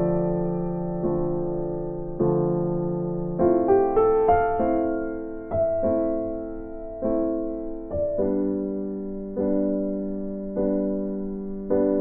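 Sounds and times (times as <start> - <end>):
soft keyboard chords: 0.0 - 12.0.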